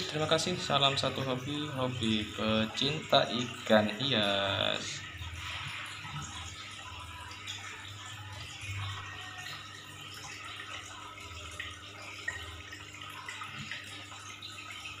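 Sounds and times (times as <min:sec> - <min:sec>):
aquarium water bubbling: 0:00.0 - 0:15.0
water drips: 0:00.0 - 0:15.0.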